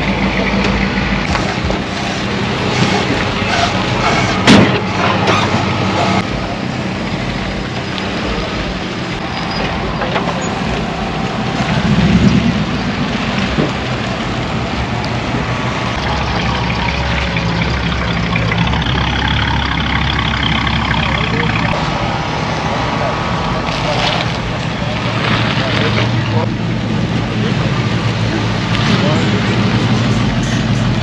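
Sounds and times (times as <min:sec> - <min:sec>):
car engines running: 0:00.0 - 0:31.0
deep low engine rumble: 0:00.0 - 0:31.0
steady outdoor noise: 0:00.0 - 0:31.0.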